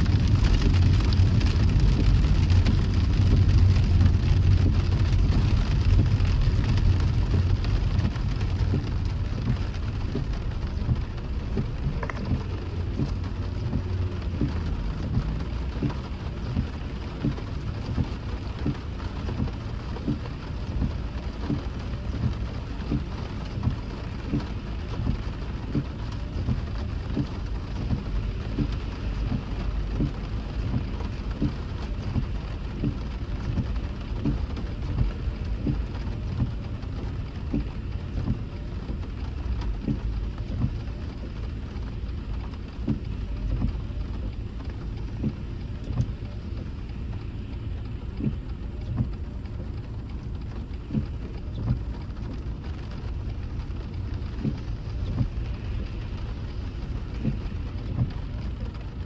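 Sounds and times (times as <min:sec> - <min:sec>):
rain drops ticking on car: 0:00.0 - 0:59.0
road and engine rumble: 0:00.0 - 0:59.0.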